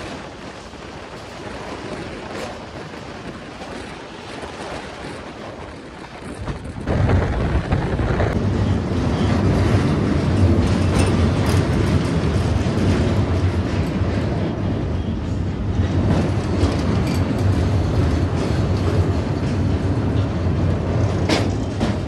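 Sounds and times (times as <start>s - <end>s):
train rushing noise: 0.0s - 22.0s
wheels rumbling on rails: 0.0s - 22.0s.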